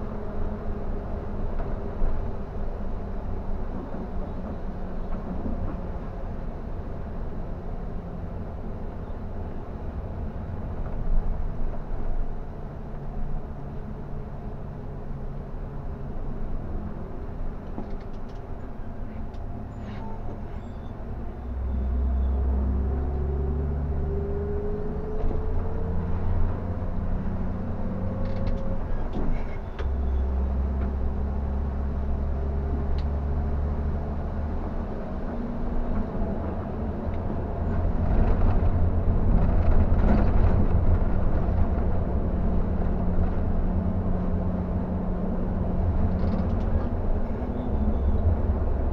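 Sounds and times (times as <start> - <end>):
bus diesel engine drone: 0.0 - 48.9
road noise: 0.0 - 48.9.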